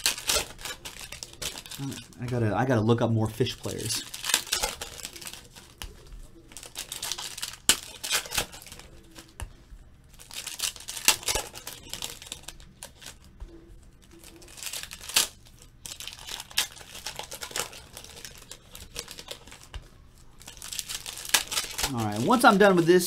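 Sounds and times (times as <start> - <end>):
plastic wrappers tearing and crinkling: 0.0 - 9.4, 10.0 - 23.0.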